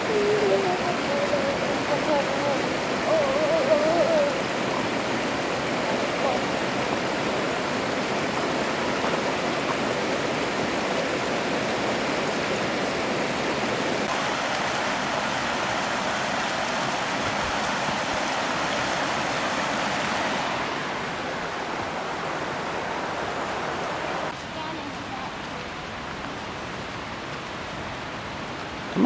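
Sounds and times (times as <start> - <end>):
river water rushing: 0.0 - 29.0
waterfall cascading: 0.0 - 29.0.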